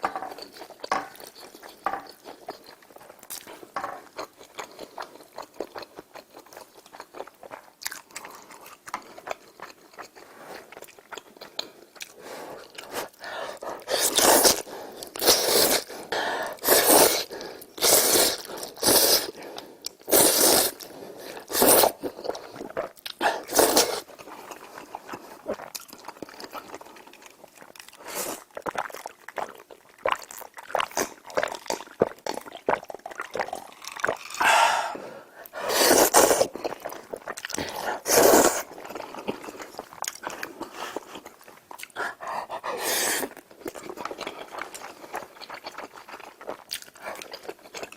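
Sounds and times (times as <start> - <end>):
chewing and crunching: 0.0 - 20.1, 20.7 - 34.5, 35.4 - 47.9.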